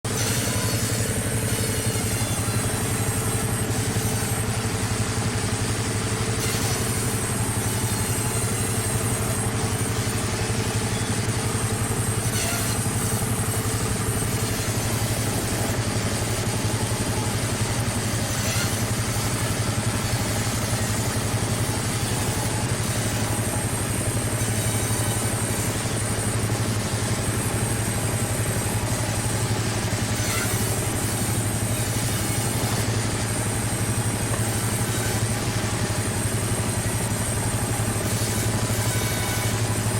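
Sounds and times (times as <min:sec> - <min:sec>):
cutting machine humming: 0:00.0 - 0:39.9.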